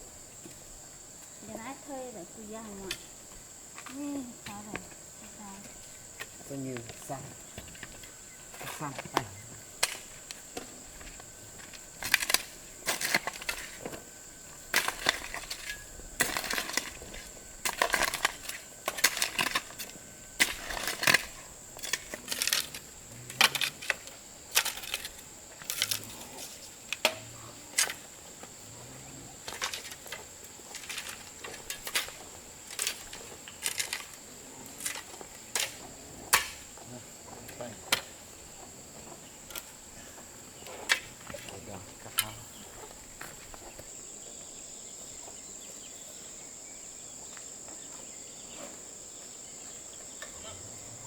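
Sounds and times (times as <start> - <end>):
high insect drone: 0.0 - 51.0.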